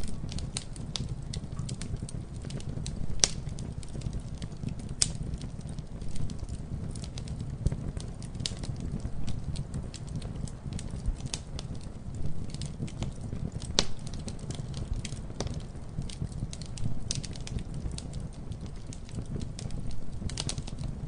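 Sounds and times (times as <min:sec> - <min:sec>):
fire pops and snaps: 0:00.0 - 0:21.0
low rumble of flames: 0:00.0 - 0:21.0
wood fire crackling: 0:00.0 - 0:21.0.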